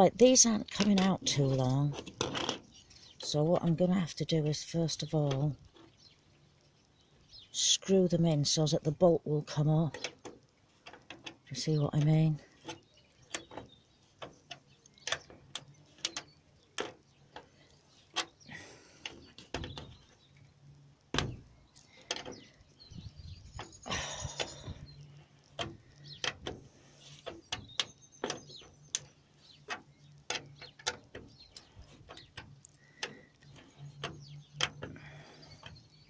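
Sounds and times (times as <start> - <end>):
small metal clicks and knocks: 0.0 - 7.4, 8.0 - 36.0.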